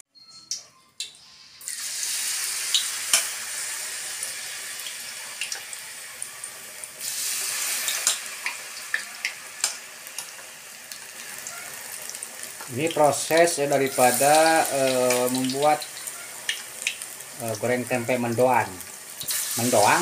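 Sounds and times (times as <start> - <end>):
batter sizzling in hot oil: 1.0 - 20.0
oil popping and crackling: 1.0 - 20.0.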